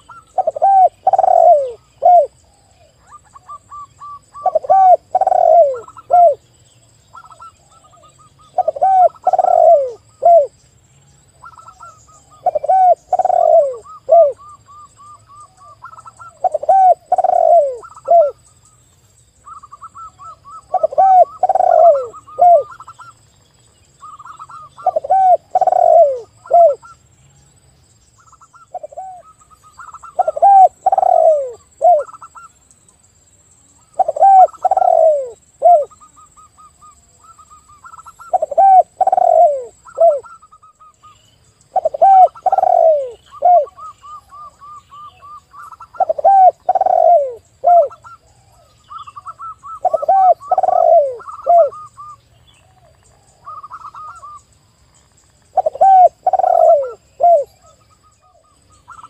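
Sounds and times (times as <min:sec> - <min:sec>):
doves cooing: 0:00.0 - 0:06.4, 0:07.2 - 0:10.6, 0:11.4 - 0:18.4, 0:19.4 - 0:23.1, 0:24.0 - 0:27.0, 0:28.3 - 0:32.5, 0:33.8 - 0:54.4, 0:55.5 - 0:59.0.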